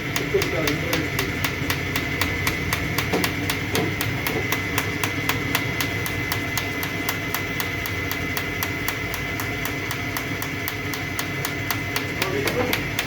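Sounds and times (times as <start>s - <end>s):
injector sharp clicks: 0.0s - 13.0s
low hum of test rig: 0.0s - 13.0s.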